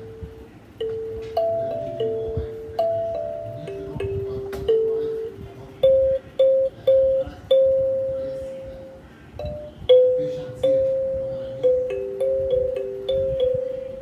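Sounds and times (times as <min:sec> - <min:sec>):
kalimba notes: 0:00.0 - 0:14.0.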